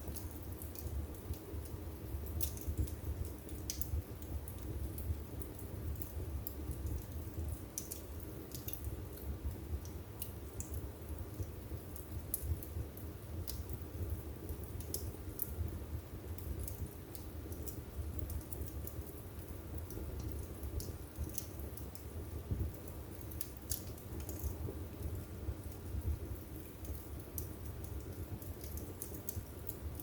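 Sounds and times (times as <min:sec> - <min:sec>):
fire crackling and popping: 0:00.0 - 0:30.0
wood fire burning: 0:00.0 - 0:30.0.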